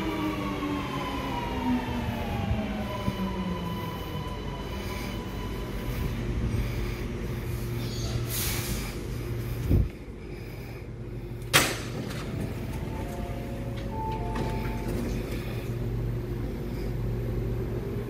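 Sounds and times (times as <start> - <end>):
train running rumble: 0.0 - 18.0
train traction motor whine: 0.0 - 18.0.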